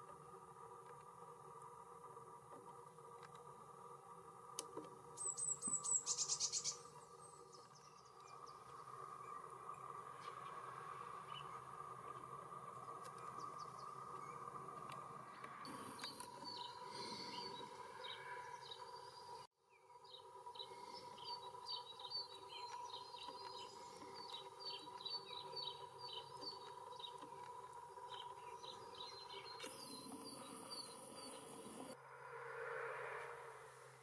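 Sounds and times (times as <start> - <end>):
songbirds chirping: 0.0 - 32.0
faint steady whine: 0.0 - 34.0.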